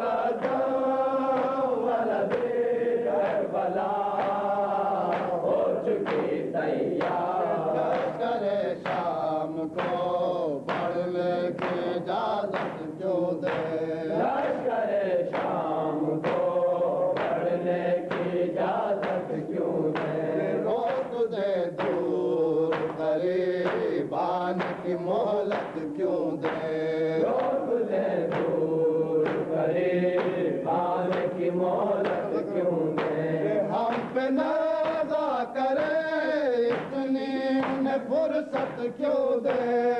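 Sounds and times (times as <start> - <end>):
men chanting a lament: 0.0 - 39.9
hands slapping chests: 0.3 - 2.6, 3.2 - 6.4, 7.0 - 14.7, 15.3 - 17.5, 18.1 - 27.7, 28.3 - 29.6, 30.2 - 39.9.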